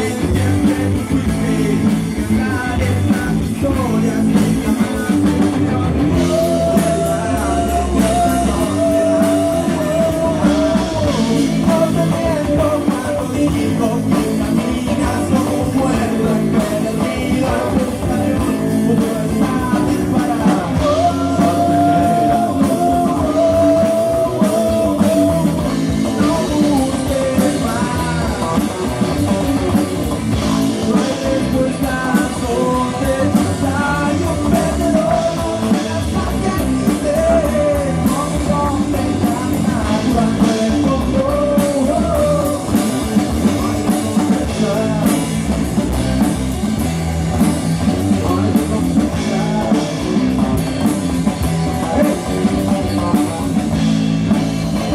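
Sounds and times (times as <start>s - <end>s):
drum kit: 0.0s - 54.9s
electric guitar: 0.0s - 54.9s.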